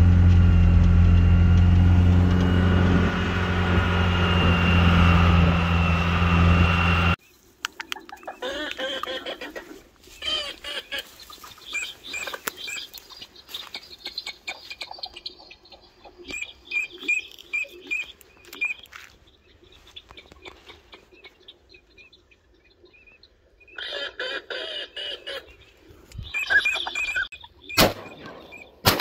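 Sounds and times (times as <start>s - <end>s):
ducks calling: 1.7s - 29.0s.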